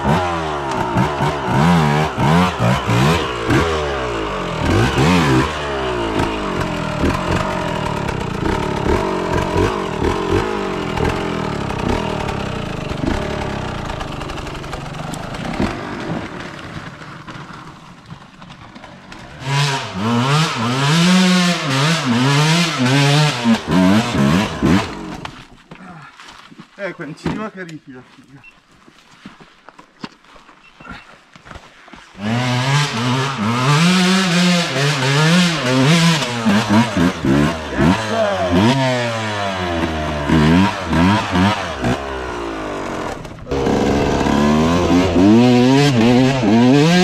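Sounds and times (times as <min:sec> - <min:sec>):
dirt bike engine revving: 0:00.0 - 0:17.8, 0:19.2 - 0:25.3, 0:32.2 - 0:47.0.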